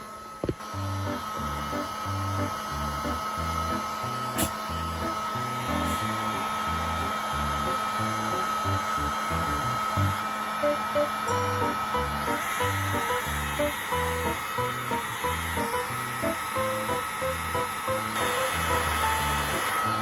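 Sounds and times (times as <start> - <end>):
hair dryer whining: 0.0 - 20.0.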